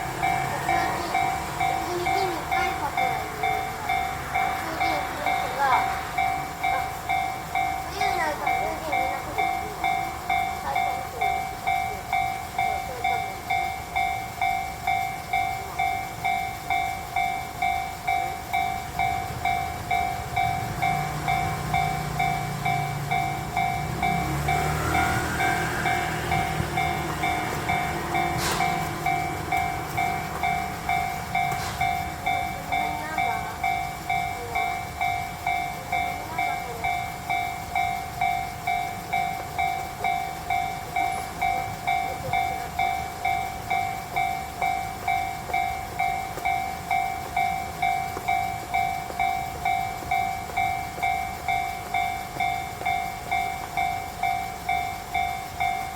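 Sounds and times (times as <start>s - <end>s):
level crossing warning bell: 0.0s - 55.9s.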